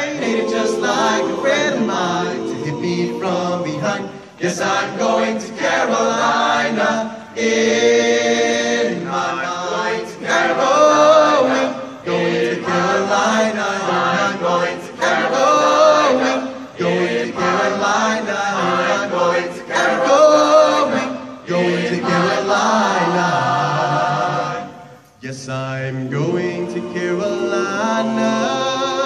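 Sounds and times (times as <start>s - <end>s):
male choir singing in harmony: 0.0s - 29.0s.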